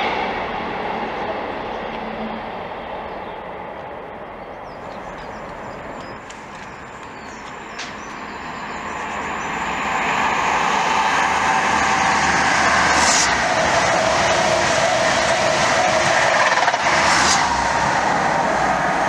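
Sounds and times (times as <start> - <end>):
diesel train passing: 0.0 - 19.0.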